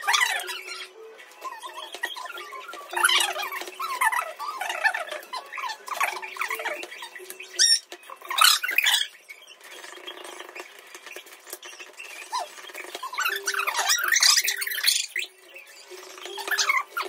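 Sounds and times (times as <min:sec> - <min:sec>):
small animals squeaking: 0:00.0 - 0:17.0.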